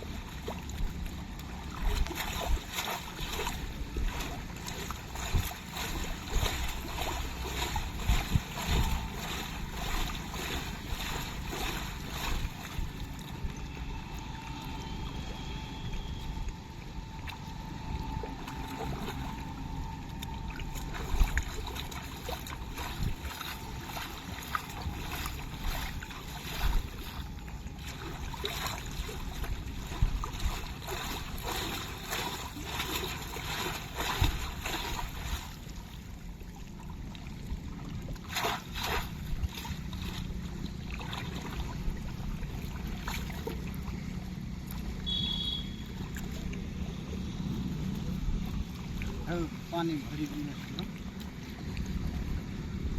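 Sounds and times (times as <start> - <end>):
water sloshing and splashing: 0.0 - 52.9.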